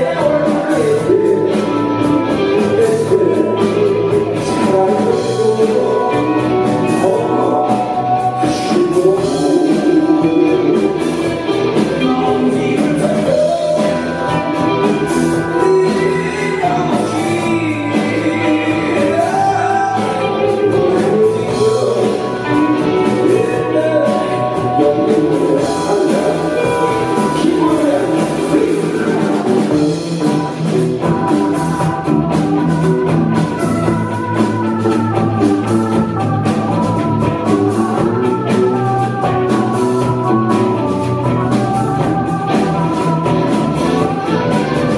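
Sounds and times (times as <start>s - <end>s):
live rock band playing: 0.0s - 44.9s
person singing: 0.0s - 44.9s.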